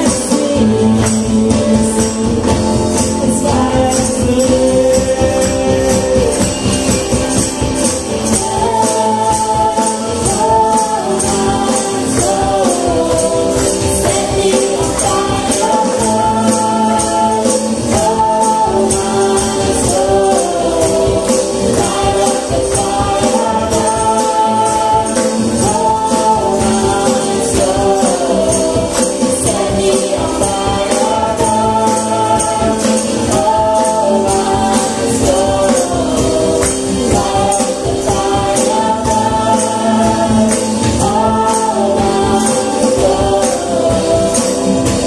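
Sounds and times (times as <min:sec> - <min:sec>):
percussion beat: 0:00.0 - 0:45.0
voices singing together: 0:00.0 - 0:45.0
worship band playing: 0:00.0 - 0:45.0.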